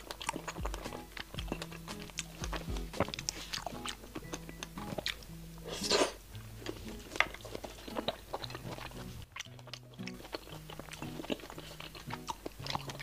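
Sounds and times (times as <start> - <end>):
soft background music: 0.0 - 13.0
wet chewing and lip smacks: 0.0 - 13.0.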